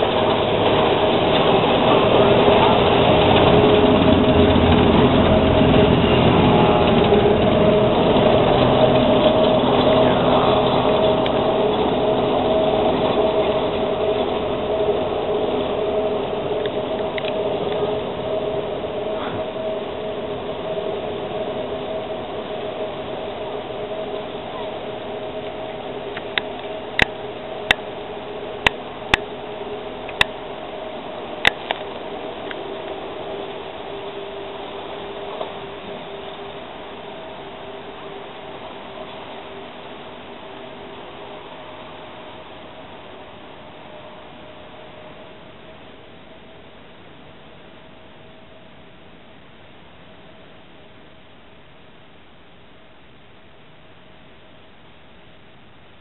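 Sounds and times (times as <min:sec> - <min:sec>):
train cars rumbling: 0:00.0 - 0:48.8
electric train motor hum and whine: 0:00.0 - 0:56.0.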